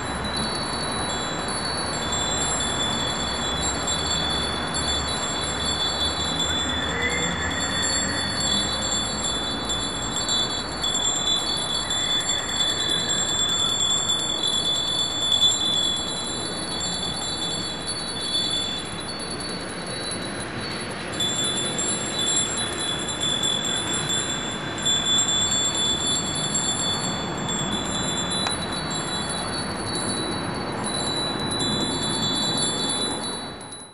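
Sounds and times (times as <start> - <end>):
city street traffic: 0.0 - 33.9
small hand bell ringing: 0.0 - 33.9.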